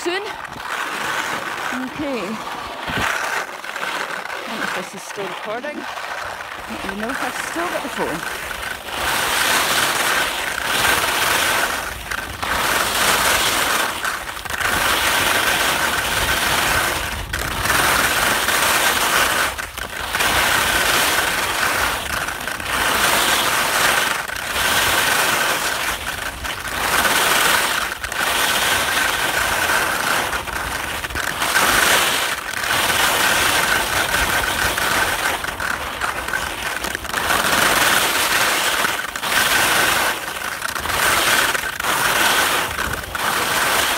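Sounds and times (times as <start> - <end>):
skis scraping over crusty snow: 0.0 - 43.9.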